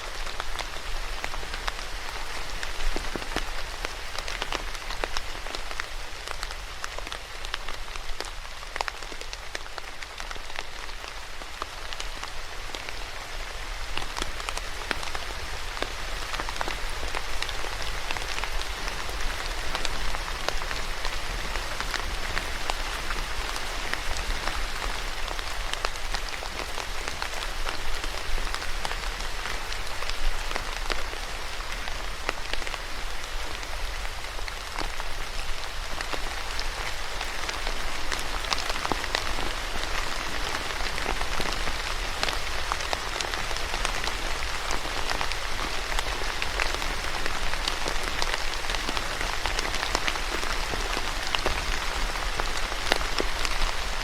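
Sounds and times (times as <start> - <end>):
steady rain with ticking drops: 0.0 - 54.0.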